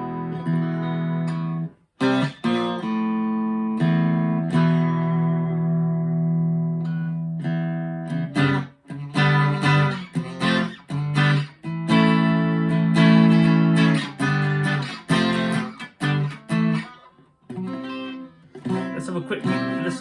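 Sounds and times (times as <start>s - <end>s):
electric guitar strummed chords: 0.0s - 20.0s.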